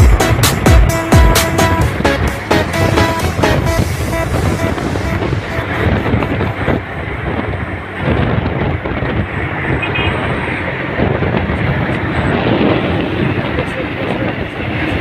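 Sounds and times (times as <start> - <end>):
heavy highway traffic rush: 0.0 - 15.0.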